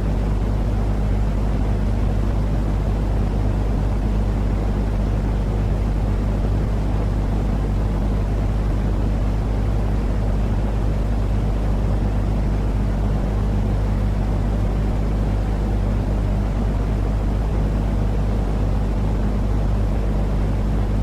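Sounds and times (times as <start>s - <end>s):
low rumbling noise with hum: 0.0s - 21.0s.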